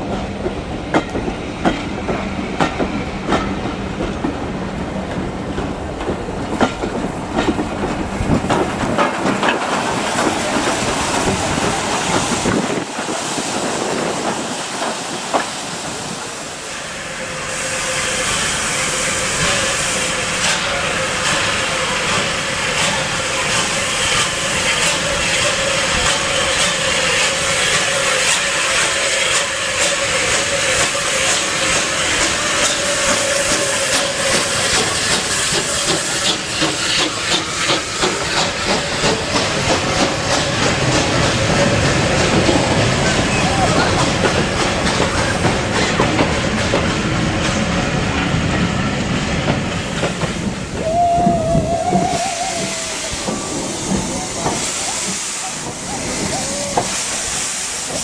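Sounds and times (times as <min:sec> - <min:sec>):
train wheels clicking over rail joints: 0:00.0 - 0:16.5, 0:18.9 - 0:58.0
steam hissing: 0:00.0 - 0:58.0.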